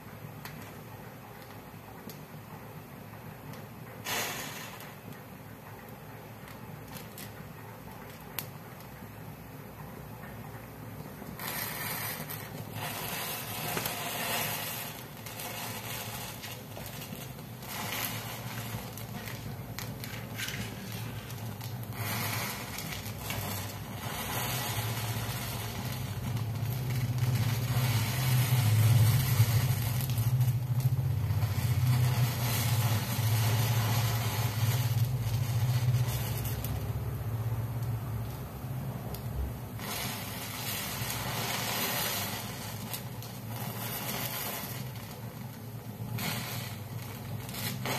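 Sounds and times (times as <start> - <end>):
fire crackling: 0.0 - 47.9
low rumble of fire: 0.0 - 47.9.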